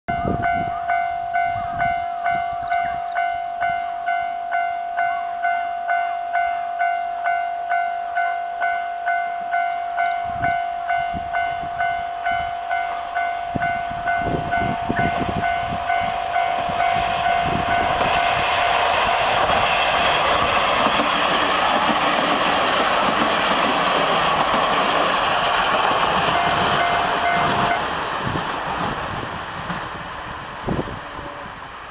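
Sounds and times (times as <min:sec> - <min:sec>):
train engine and wheels on rails: 0:00.1 - 0:31.9.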